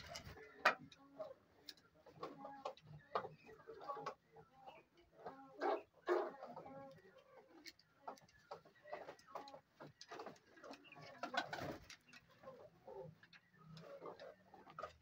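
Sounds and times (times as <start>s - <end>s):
peafowl calls and clucks: 0.0s - 15.0s.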